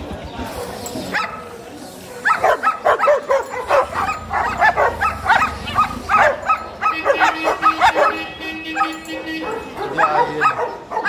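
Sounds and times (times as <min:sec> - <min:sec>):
dogs barking rapidly: 0:00.4 - 0:11.0.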